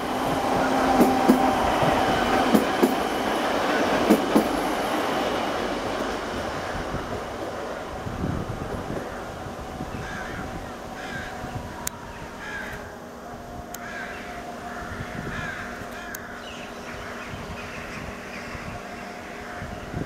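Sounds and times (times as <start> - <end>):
electric train humming and rumbling: 0.0 - 20.0.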